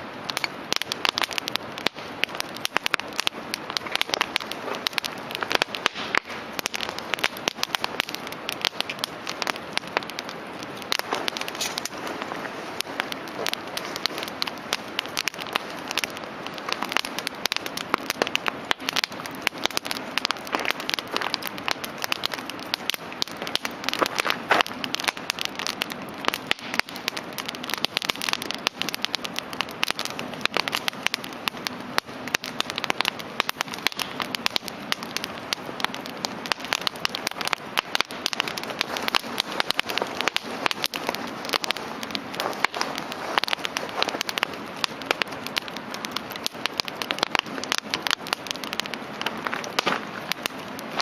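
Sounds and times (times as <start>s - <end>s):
campfire crackling: 0.0s - 51.0s.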